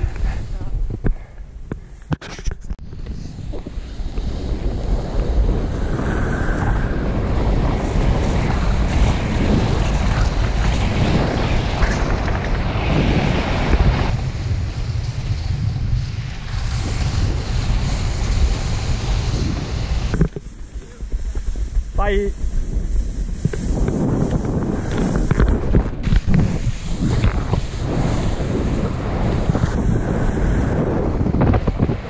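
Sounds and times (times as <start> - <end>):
wind buffeting microphone: 0.0 - 32.0
skis sliding on snow: 3.1 - 14.1, 16.0 - 32.0.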